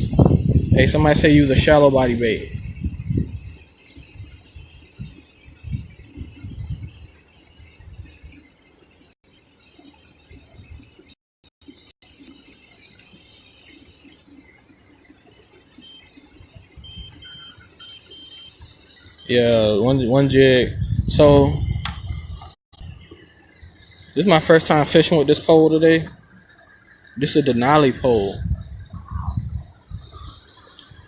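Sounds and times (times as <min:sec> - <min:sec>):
night insects chorus: 0:00.0 - 0:31.0.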